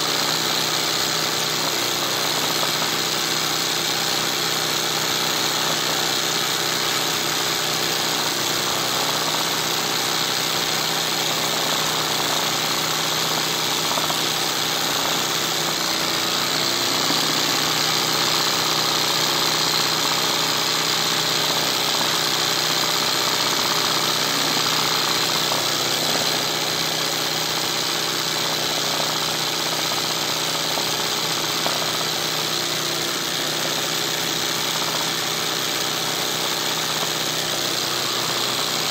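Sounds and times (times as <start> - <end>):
embroidery sewing machine running: 0.0 - 38.9.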